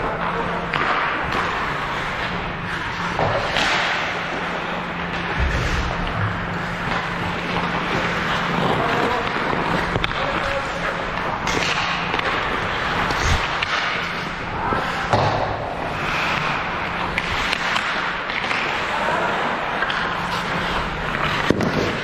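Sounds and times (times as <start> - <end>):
distant voices: 0.0 - 22.0
steady low hum: 0.0 - 22.0.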